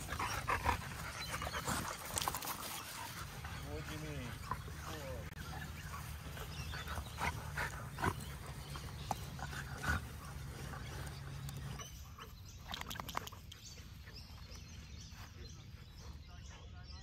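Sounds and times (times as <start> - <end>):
dogs growling and grunting: 0.0 - 14.4.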